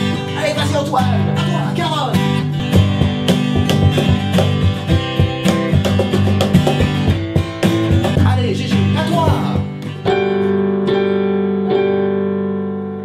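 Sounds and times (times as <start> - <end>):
acoustic guitar strumming: 0.0 - 12.7.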